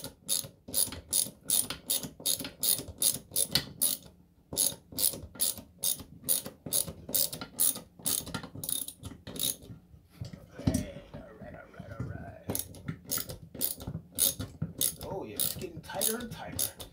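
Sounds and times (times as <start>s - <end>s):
socket ratchet clicking: 0.0s - 9.6s, 12.5s - 16.9s.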